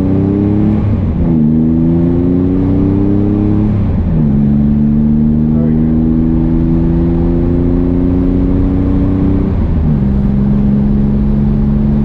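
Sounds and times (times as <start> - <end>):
car engine heard from cabin: 0.0 - 12.0.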